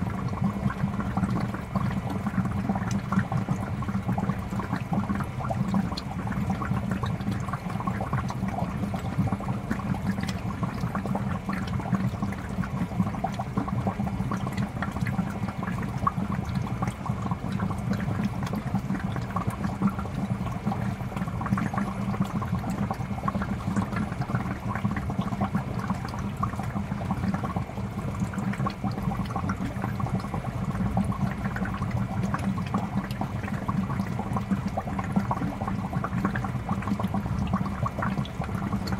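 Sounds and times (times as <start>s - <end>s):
fish tank water bubbling: 0.0s - 38.9s.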